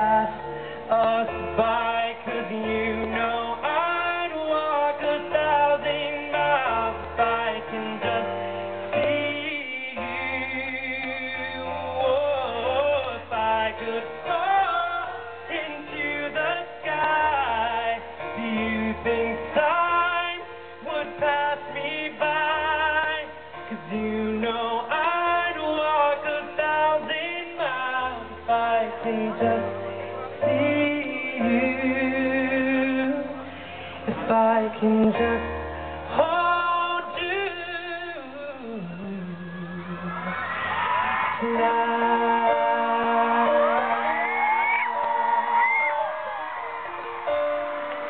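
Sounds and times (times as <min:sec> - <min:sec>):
man singing through pa: 0:00.0 - 0:46.4
keyboard accompaniment: 0:00.0 - 0:48.0.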